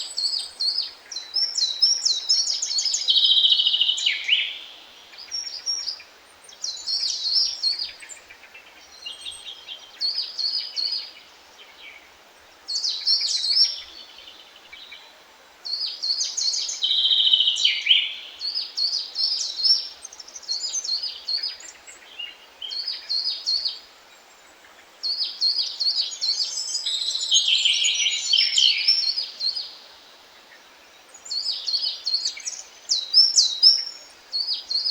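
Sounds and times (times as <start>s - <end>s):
faint steady hiss: 0.0s - 34.9s
songbird singing: 0.0s - 34.9s.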